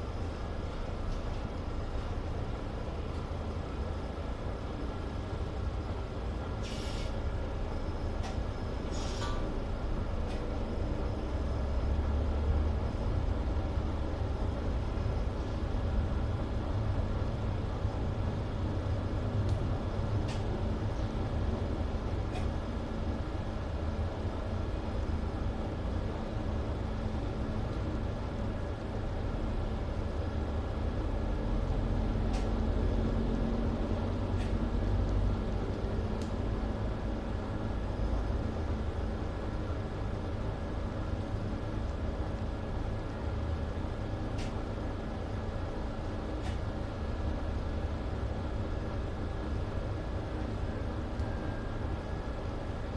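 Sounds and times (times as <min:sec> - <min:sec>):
bus engine and road rumble: 0:00.0 - 0:52.9.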